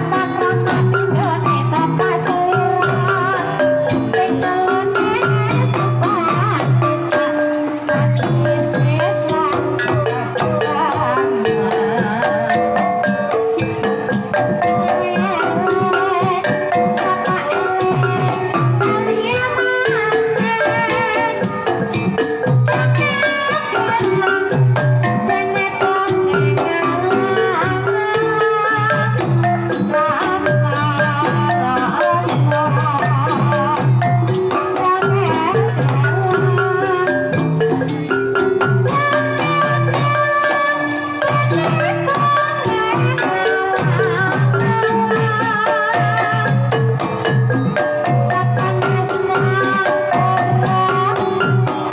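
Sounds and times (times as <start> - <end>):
hand drum: 0.0 - 51.9
mallet-struck melody notes: 0.0 - 51.9
woman singing wavering line: 0.0 - 51.9.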